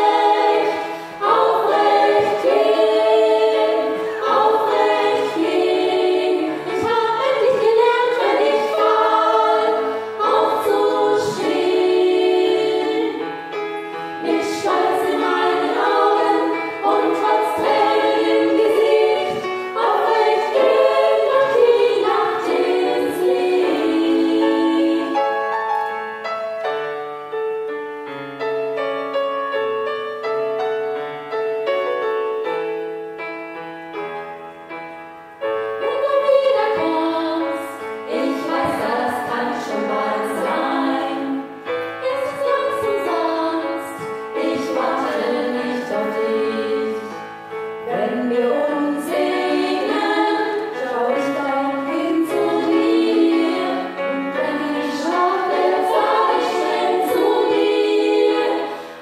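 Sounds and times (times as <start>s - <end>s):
women singing in harmony: 0.0s - 25.5s, 35.7s - 59.0s
piano accompaniment: 0.0s - 59.0s.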